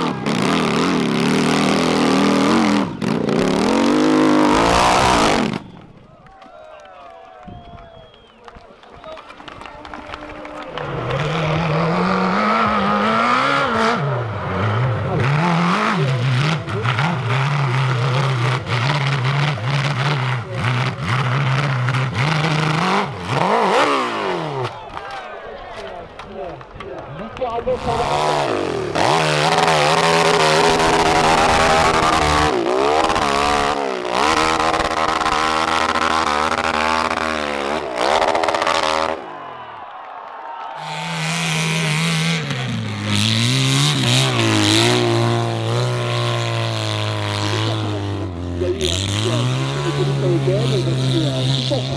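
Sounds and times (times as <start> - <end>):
racing engine at high revs: 0.0 - 6.0, 9.5 - 25.2, 26.6 - 39.6, 40.8 - 51.9.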